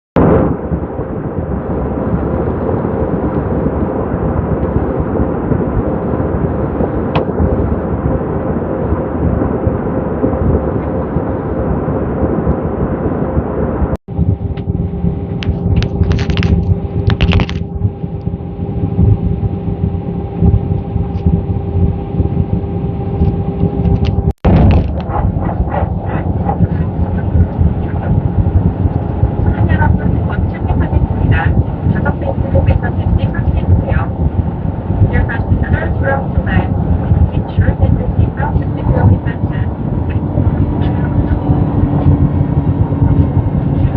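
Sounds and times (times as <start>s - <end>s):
airliner engine roar: 0.2s - 43.9s.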